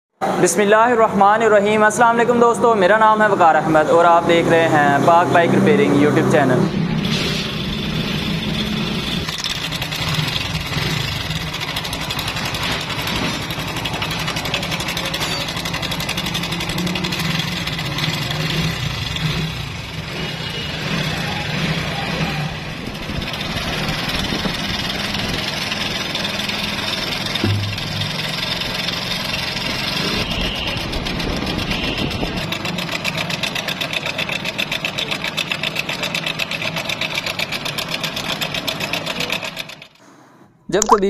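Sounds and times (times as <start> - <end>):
motorcycle engine idling with rattle: 7.1 - 40.0.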